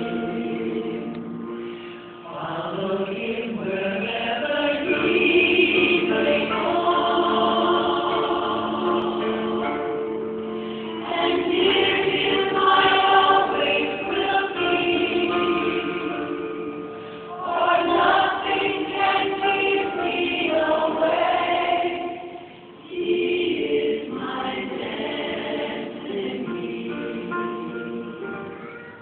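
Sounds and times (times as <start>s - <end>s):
choir singing held notes: 0.0s - 28.6s.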